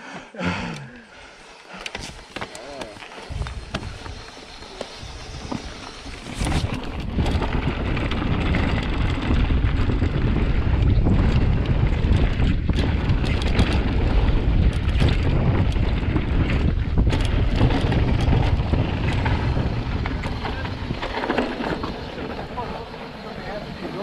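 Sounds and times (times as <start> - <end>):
bike clicks and rattles: 0.7 - 24.0
tyres rolling on gravel: 1.5 - 24.0
wind on microphone: 3.2 - 23.0.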